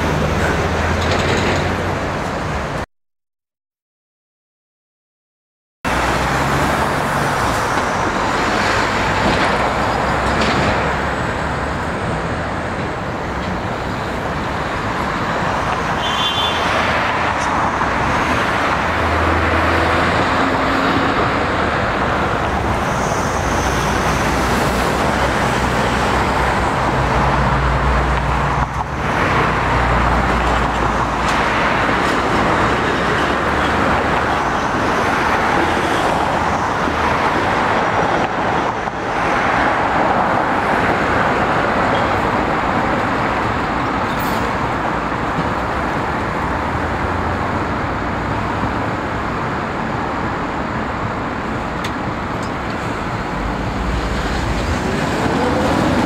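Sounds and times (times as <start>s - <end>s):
heavy vehicles rumbling past: 0.0s - 2.8s, 5.9s - 56.0s
road traffic noise: 0.0s - 2.9s, 5.8s - 56.0s.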